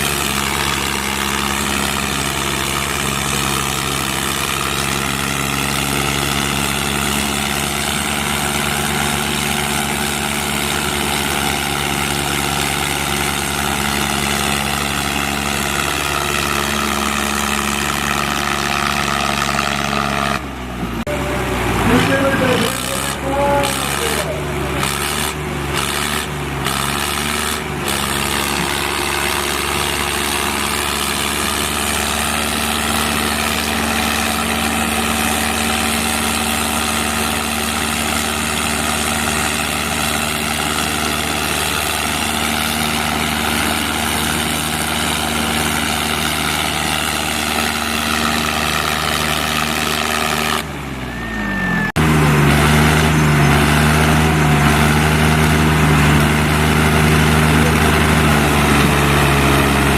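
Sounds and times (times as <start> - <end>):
tractor engines under heavy load: 0.0 - 59.9.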